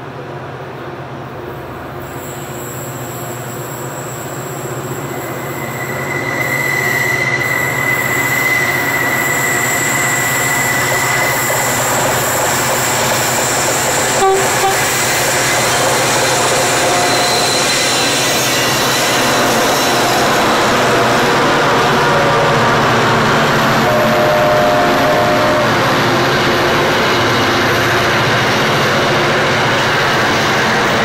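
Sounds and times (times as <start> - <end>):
diesel locomotives passing: 0.0 - 31.0.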